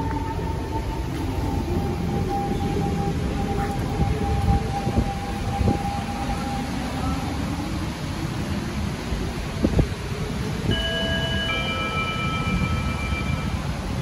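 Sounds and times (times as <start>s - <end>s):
train high whine: 0.0s - 14.0s.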